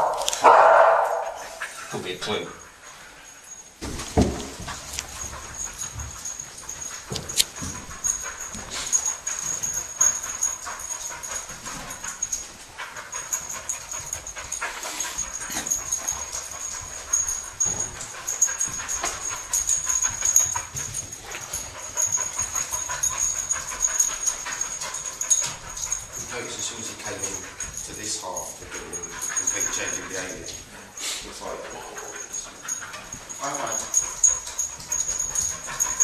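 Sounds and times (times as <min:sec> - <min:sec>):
dog panting: 0:00.0 - 0:36.0.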